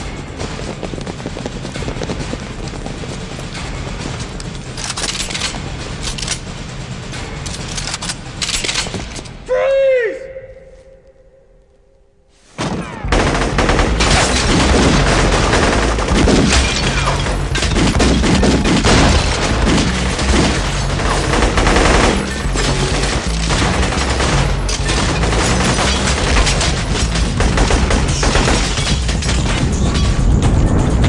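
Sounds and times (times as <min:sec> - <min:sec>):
rapid gunfire barrage: 0:00.0 - 0:07.1, 0:12.6 - 0:31.0.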